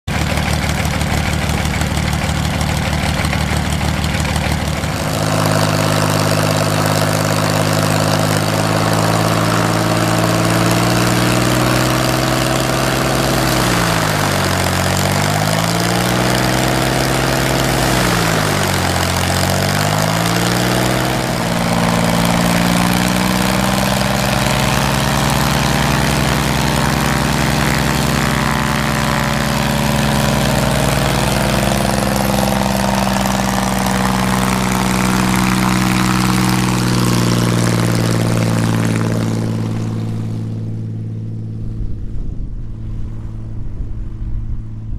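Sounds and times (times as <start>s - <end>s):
plane engine and propeller running: 0.0s - 44.9s.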